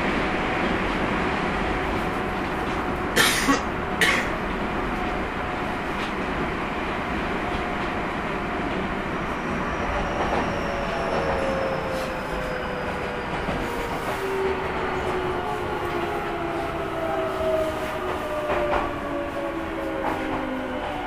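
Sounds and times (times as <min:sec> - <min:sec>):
train wheel and track noise: 0:00.0 - 0:21.0.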